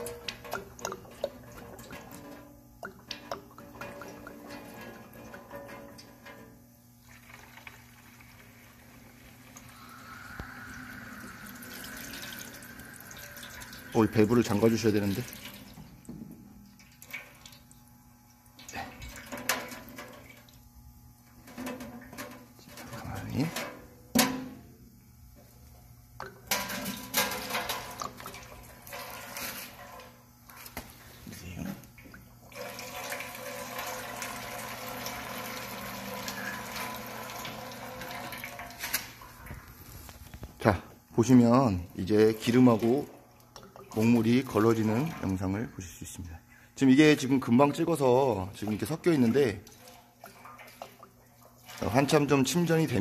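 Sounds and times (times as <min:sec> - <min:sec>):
water trickling into metal tray: 0:00.0 - 0:20.7, 0:26.2 - 0:30.2, 0:31.9 - 0:45.9, 0:47.6 - 0:53.0.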